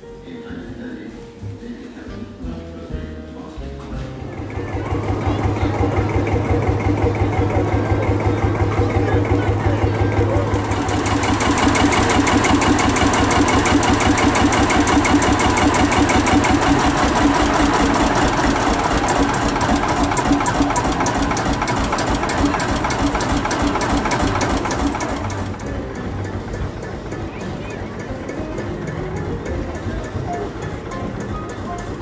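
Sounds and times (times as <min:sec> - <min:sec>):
tractor diesel engine idling: 0:04.1 - 0:32.0.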